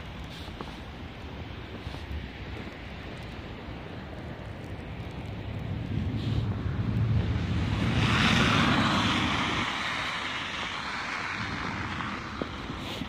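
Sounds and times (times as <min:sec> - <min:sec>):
tyres hissing through wet snow: 0:00.0 - 0:13.0
low rumble: 0:01.4 - 0:12.8.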